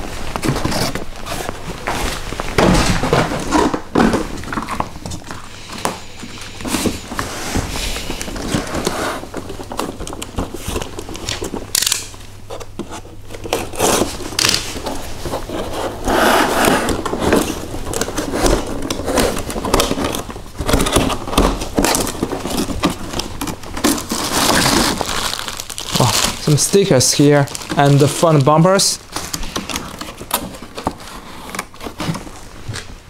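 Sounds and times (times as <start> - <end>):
cardboard scraping and rustling: 0.0 - 11.7, 12.3 - 33.0.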